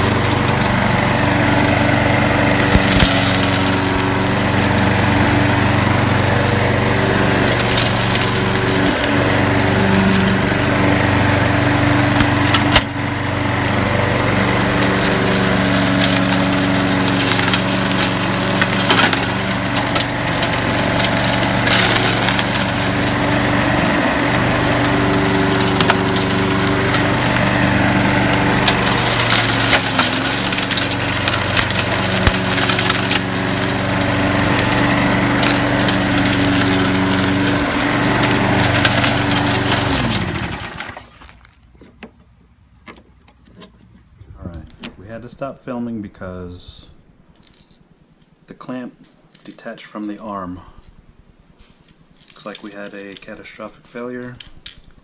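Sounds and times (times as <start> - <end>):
lawn mower engine running: 0.0 - 45.3
debris crackling against mower deck: 0.0 - 45.5, 51.7 - 55.0.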